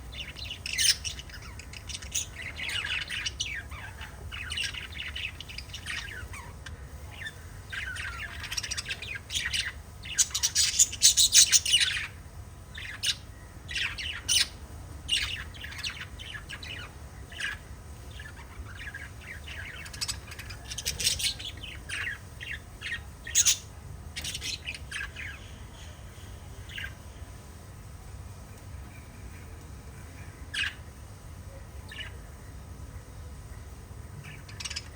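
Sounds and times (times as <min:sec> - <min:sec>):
budgerigars chirping and squawking: 0:00.0 - 0:27.1, 0:30.1 - 0:30.9, 0:31.8 - 0:32.2, 0:34.2 - 0:34.9.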